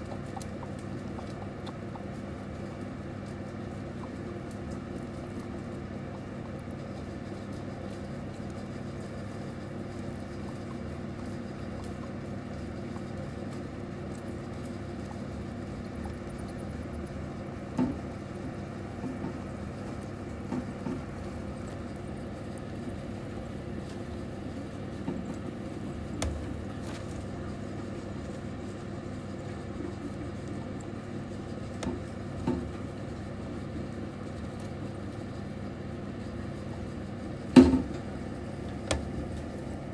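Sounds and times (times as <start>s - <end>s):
low background hum: 0.0s - 39.9s
mice rustling in bedding: 0.0s - 39.9s.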